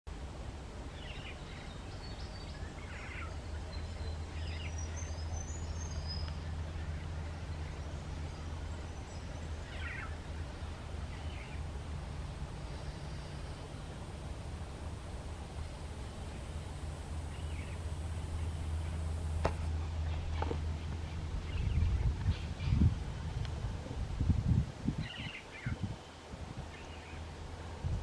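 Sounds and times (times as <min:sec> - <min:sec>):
steady low rumble: 0:00.1 - 0:28.0.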